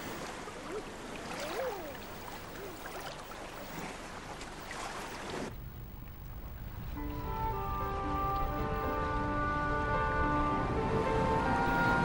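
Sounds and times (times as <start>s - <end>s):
sea water splashing: 0.0s - 12.0s.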